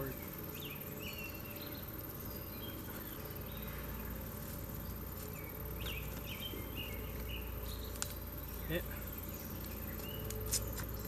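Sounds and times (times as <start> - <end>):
birds chirping: 0.0 - 11.0
low background rumble: 0.0 - 11.0.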